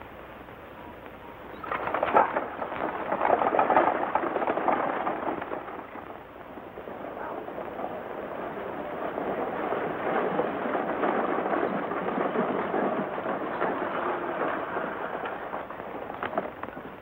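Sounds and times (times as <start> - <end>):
horses galloping: 1.4 - 17.0
wooden wheels rattling: 1.5 - 17.0.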